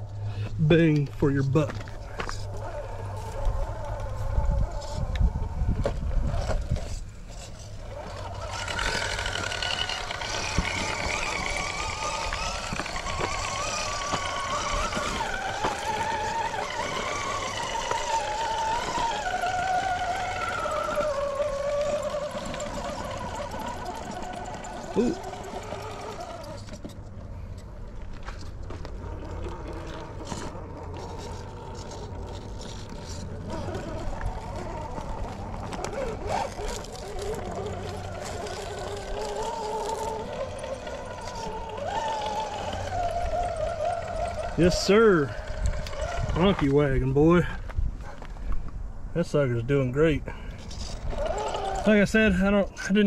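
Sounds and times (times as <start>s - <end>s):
tyres scraping on rock: 0.4s - 48.6s, 50.3s - 53.0s
rc truck motor whining: 1.3s - 48.3s, 50.3s - 53.0s.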